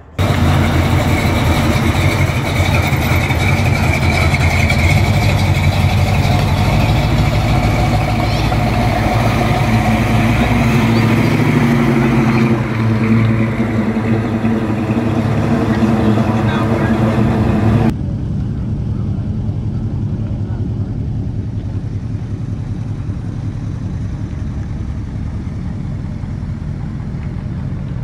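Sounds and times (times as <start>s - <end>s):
car engine passing slowly: 0.0s - 28.0s.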